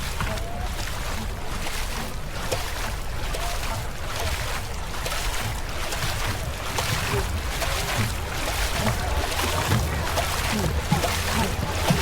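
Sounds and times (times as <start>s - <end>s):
paddles splashing: 0.0s - 12.0s.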